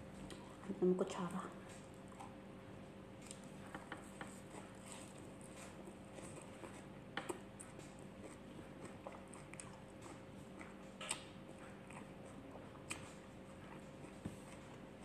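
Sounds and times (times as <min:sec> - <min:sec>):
chewing leafy greens: 0:00.0 - 0:15.0
faint steady hum: 0:00.0 - 0:15.0.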